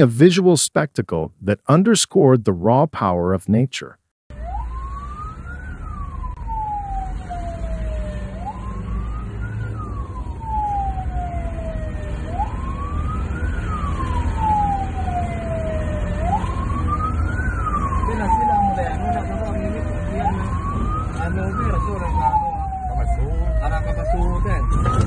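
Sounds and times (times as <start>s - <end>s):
siren wailing: 4.3s - 25.0s.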